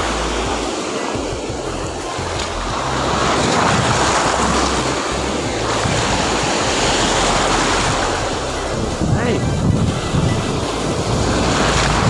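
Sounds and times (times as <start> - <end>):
surf washing up beach: 0.0 - 12.0
wind rumbling on microphone: 0.0 - 12.0.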